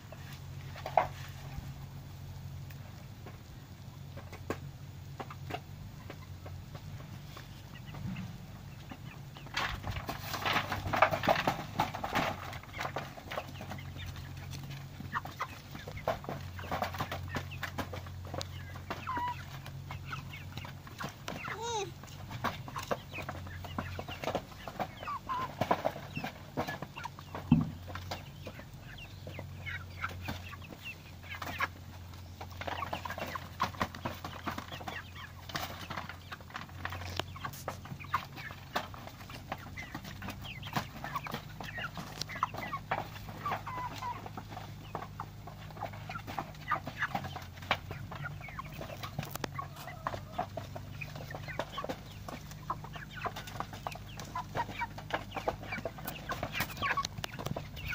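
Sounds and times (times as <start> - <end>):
hens clucking: 0.0 - 57.9.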